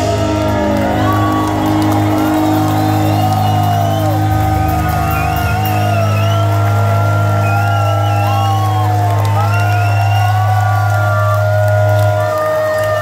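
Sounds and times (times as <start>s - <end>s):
crowd whistling and cheering: 0.0s - 13.0s.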